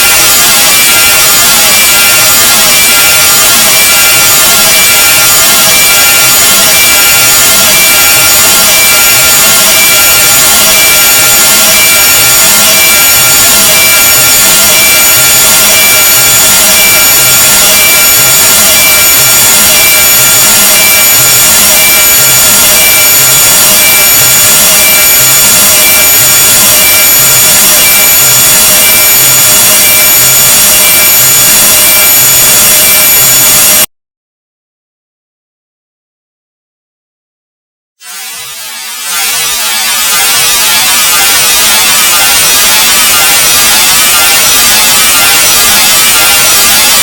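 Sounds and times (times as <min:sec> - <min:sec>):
high-pitched steady tones: 0:00.0 - 0:33.9, 0:38.0 - 0:47.0.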